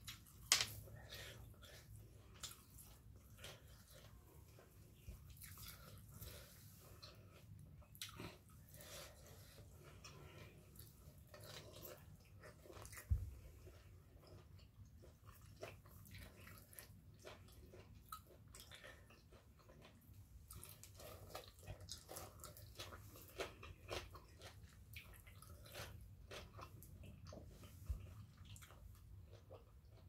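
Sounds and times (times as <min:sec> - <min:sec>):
wet chewing and smacking: 0:00.0 - 0:30.0.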